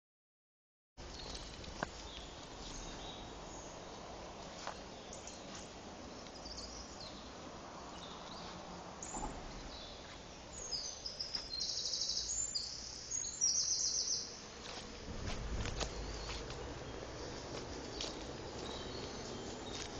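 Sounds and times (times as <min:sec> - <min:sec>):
songbirds singing: 0:01.0 - 0:19.9.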